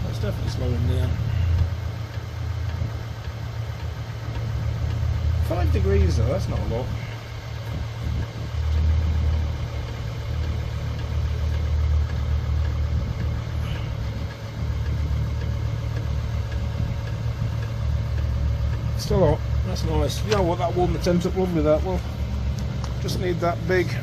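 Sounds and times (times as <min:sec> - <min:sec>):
diesel heater low rumble: 0:00.0 - 0:24.0.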